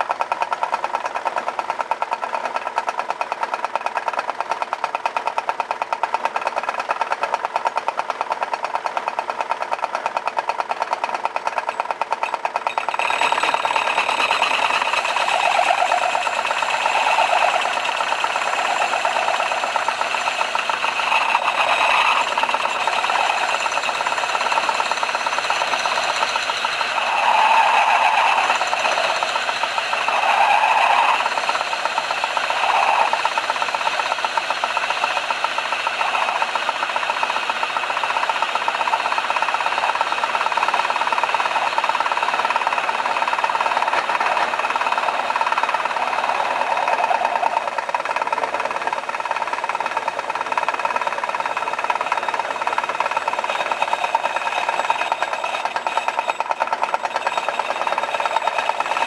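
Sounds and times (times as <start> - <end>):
lathe running with rapid rattle: 0.0 - 59.0.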